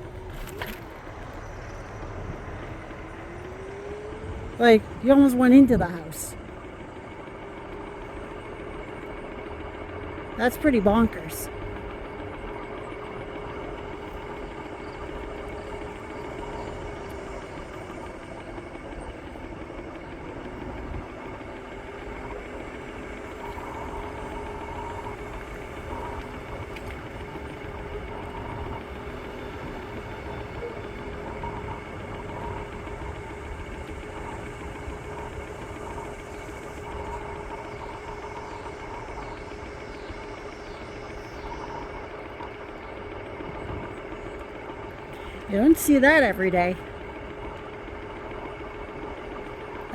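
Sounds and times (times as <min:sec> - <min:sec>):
electric scooter motor whine: 0:00.0 - 0:49.9.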